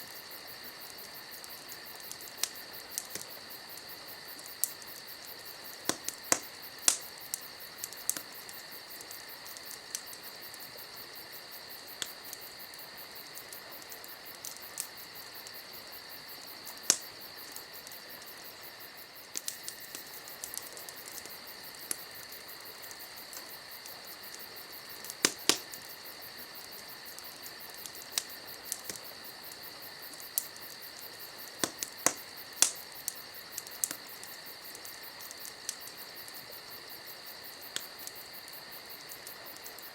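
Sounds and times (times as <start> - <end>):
campfire crackling and popping: 0.0 - 39.9
insect chorus: 0.0 - 39.9.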